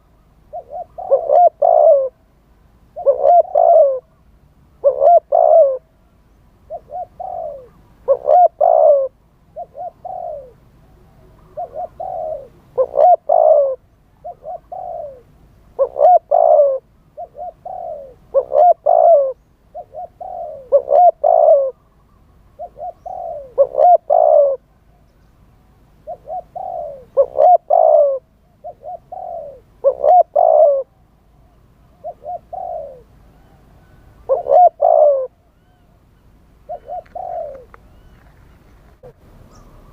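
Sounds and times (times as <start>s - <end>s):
dove cooing: 0.0s - 2.2s, 2.9s - 6.0s, 6.6s - 25.2s, 26.0s - 39.9s.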